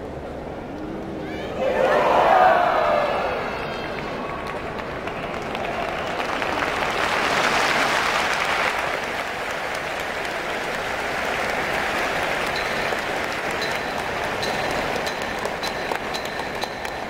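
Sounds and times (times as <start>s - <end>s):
audience applauding: 2.1s - 17.0s.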